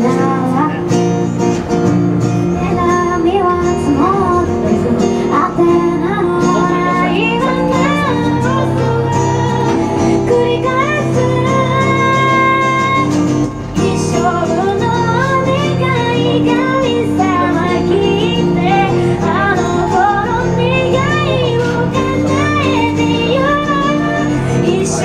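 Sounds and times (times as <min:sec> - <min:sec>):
woman singing with vibrato: 0:00.0 - 0:01.2, 0:02.5 - 0:25.0
strummed acoustic guitar: 0:00.0 - 0:25.0.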